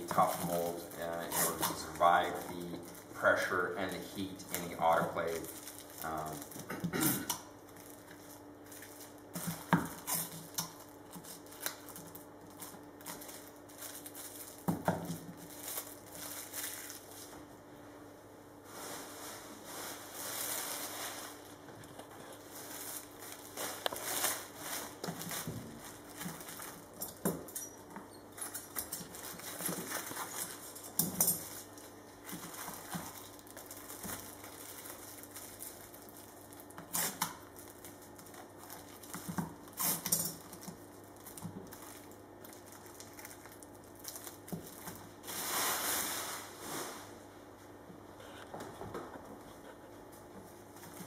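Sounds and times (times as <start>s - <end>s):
plastic film crinkling: 0.0s - 6.7s, 7.5s - 17.6s, 18.8s - 27.3s, 28.4s - 47.1s.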